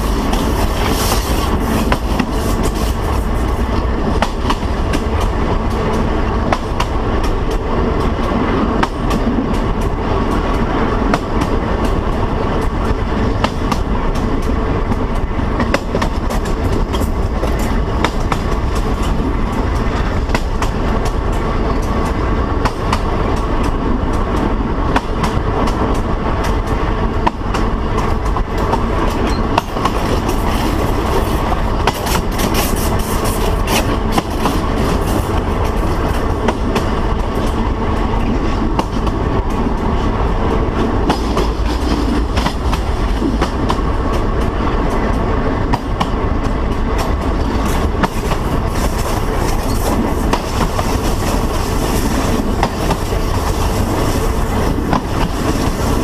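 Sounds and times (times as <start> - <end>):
wheels clicking on track: 0.0 - 40.1, 40.7 - 56.0
train rumble: 0.0 - 56.0.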